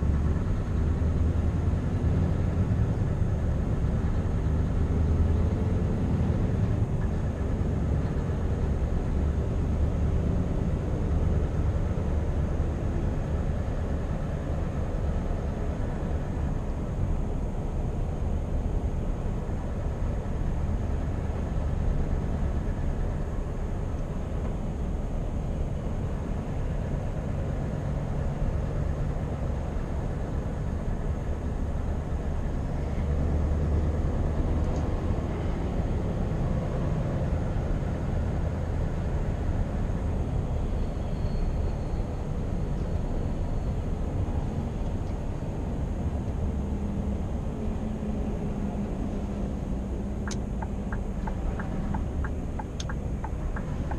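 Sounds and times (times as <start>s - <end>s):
road noise: 0.0s - 53.9s.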